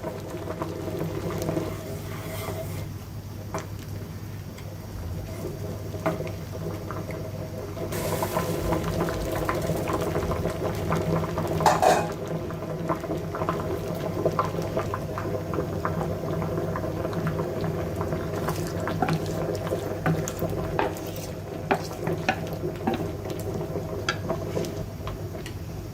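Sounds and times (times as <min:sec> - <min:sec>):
liquid bubbling at a boil: 0:00.0 - 0:25.9
steady low hum: 0:00.0 - 0:25.9.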